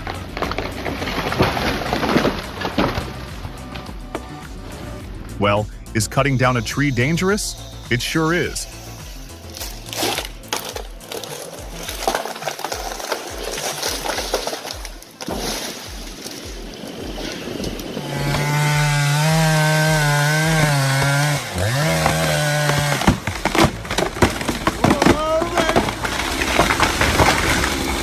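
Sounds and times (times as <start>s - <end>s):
sharp cracks and knocks: 0.0s - 5.3s, 9.0s - 28.0s
chainsaw running: 0.0s - 28.0s.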